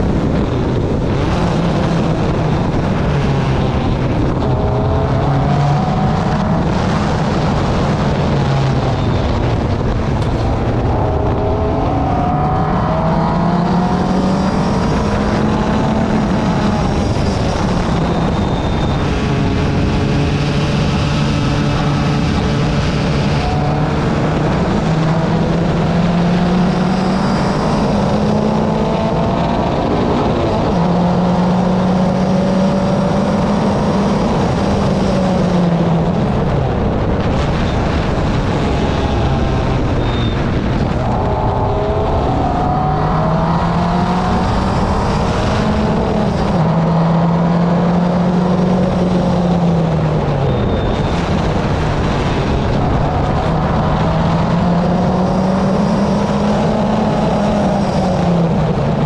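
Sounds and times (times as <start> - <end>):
car engine accelerating: 0.0 - 59.0
road noise: 0.0 - 59.0.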